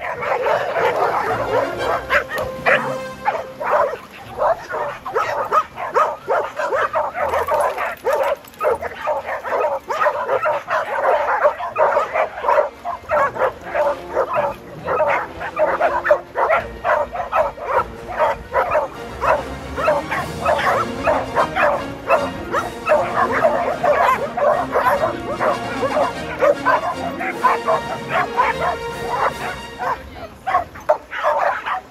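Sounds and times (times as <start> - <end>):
dogs barking and yipping: 0.0 - 31.9.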